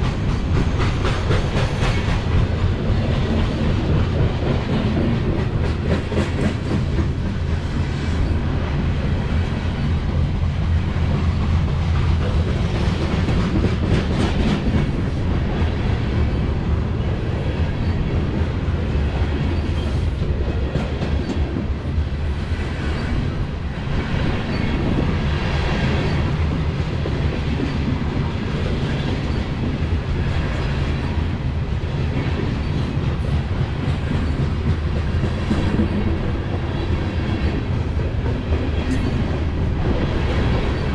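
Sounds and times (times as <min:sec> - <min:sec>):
freight train wheels clattering: 0:00.0 - 0:40.9.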